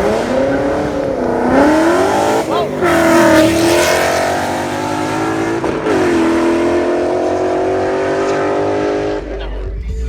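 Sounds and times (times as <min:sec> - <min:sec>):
vehicle engine revving high: 0:00.0 - 0:09.4.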